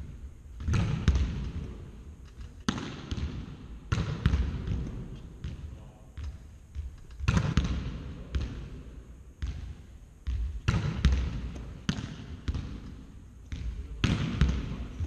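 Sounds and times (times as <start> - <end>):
volleyballs hit and bouncing: 0.0 - 15.0.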